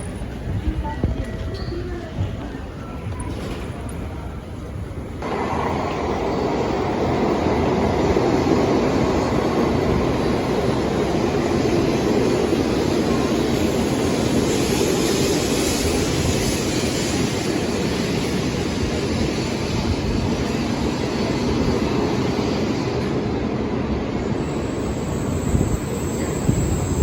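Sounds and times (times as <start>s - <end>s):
train rushing at speed: 0.0s - 27.0s.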